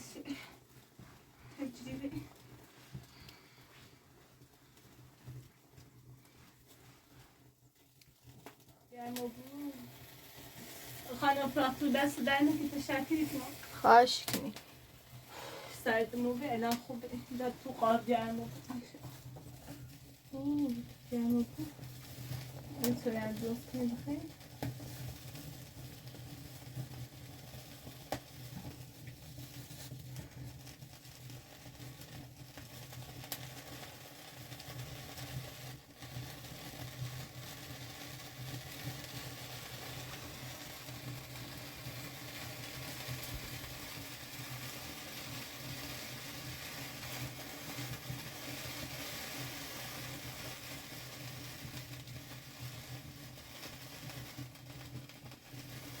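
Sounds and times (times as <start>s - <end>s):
wood fire sizzling and crackling: 0.0s - 56.0s.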